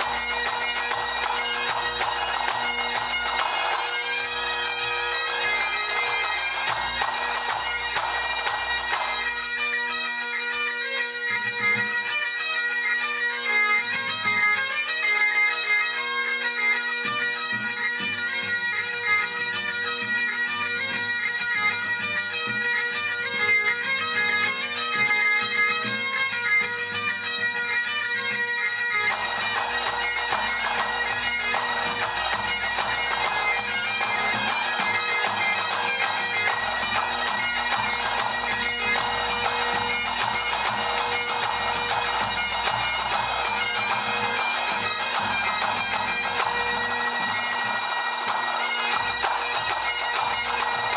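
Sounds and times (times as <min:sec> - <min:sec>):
bagpipe band playing: 0:00.0 - 0:50.9.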